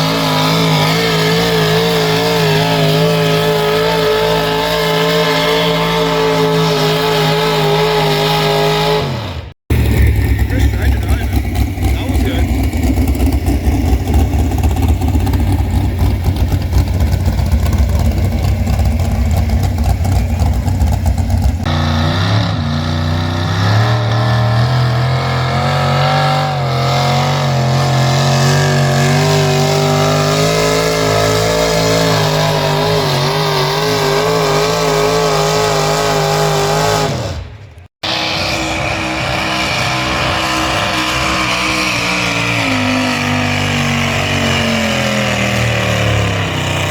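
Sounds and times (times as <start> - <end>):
pulling vehicle engines running hard: 0.0 - 46.9.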